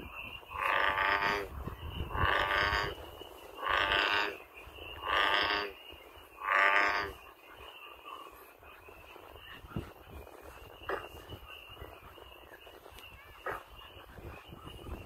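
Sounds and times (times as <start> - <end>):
bullfrog croaking: 0.0 - 12.6, 13.2 - 15.0.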